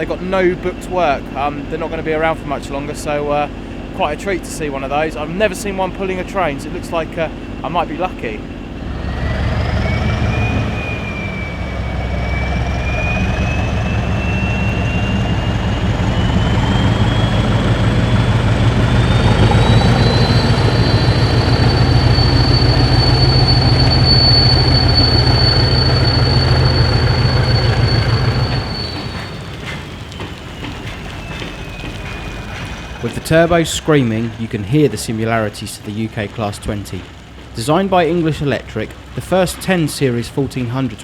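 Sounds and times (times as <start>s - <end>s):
heavy locomotive engine rumble: 0.0s - 41.0s
turbocharger whine: 0.0s - 41.0s.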